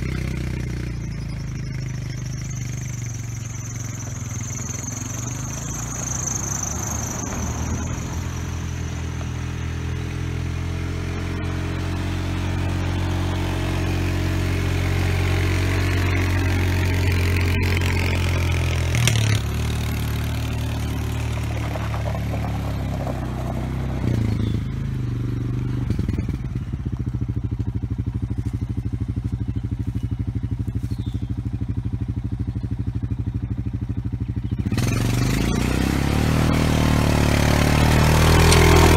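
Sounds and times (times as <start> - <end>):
utility vehicle engine running: 0.0 - 38.9.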